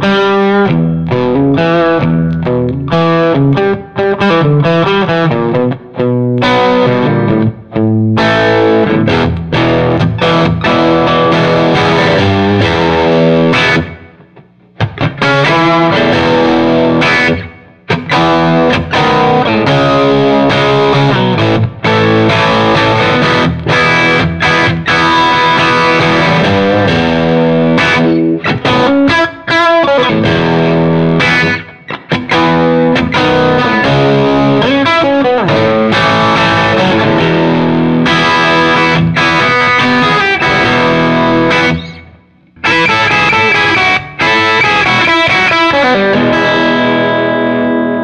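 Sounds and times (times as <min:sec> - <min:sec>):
electric guitar chords and riffs: 0:00.0 - 0:48.0.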